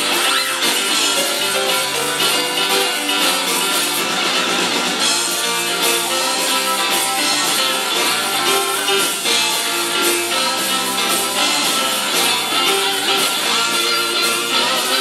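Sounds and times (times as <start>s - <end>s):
bass: 0.0s - 15.0s
electric guitar lead lines: 0.0s - 15.0s
steady drum beat: 0.0s - 15.0s.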